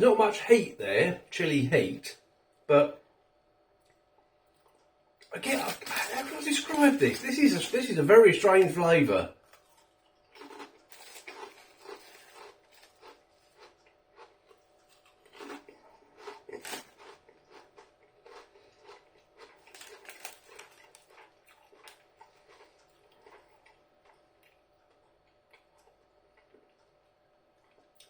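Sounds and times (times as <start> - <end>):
crisps being chewed: 3.8 - 7.9, 9.4 - 28.0.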